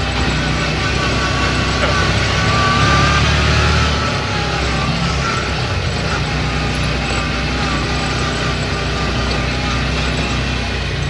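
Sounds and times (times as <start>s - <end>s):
buggy engine running: 0.0s - 11.0s.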